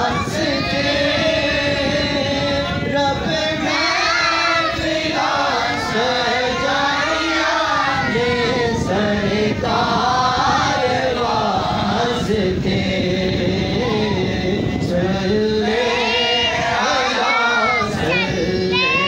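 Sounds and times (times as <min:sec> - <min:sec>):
men singing devotional chant: 0:00.0 - 0:19.0.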